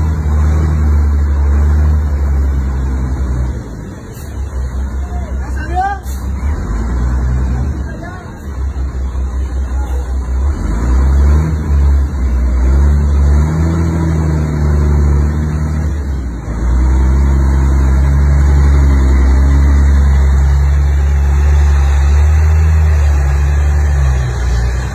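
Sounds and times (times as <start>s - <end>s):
bus engine droning: 0.0s - 24.9s.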